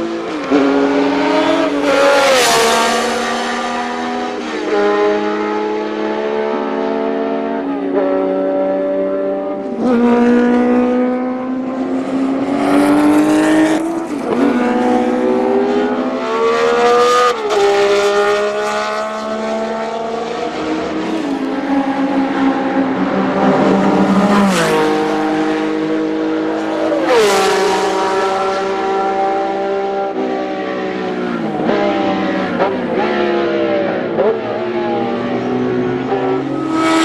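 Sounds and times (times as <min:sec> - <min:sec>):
racing engine at high revs: 0:00.0 - 0:37.0.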